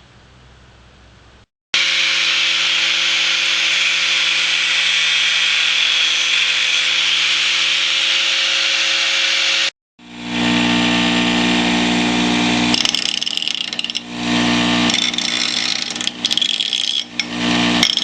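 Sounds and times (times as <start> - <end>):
power tool running under load: 1.8 - 18.0.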